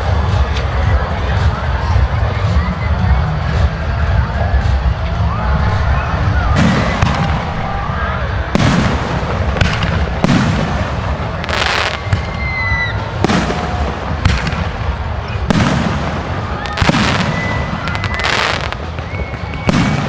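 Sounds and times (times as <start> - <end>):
continuous low rumble: 0.0 - 20.0
fireworks crackling: 0.0 - 20.0.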